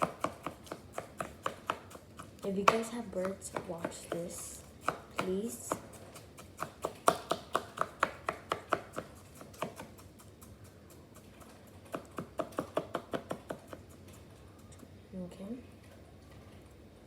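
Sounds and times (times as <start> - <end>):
utensil tapping on hard surface: 0.0 - 13.9.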